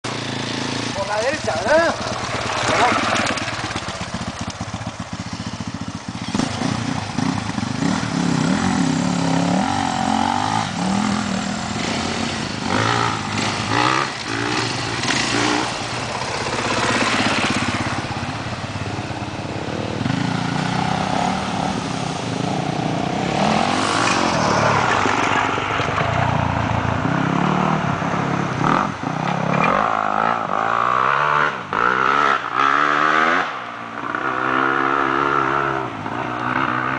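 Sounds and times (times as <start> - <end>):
dirt bike engine revving: 0.1 - 28.0, 28.6 - 36.9.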